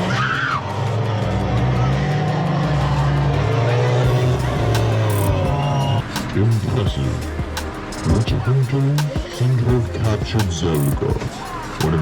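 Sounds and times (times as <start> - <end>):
music with low drone: 0.0 - 12.0.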